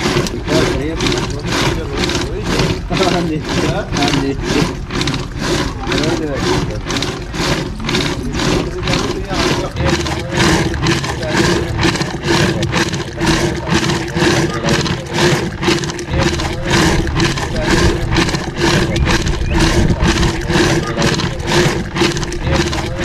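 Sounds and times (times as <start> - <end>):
steady tone: 0.0 - 23.0
wooden churn swishing: 0.0 - 23.0.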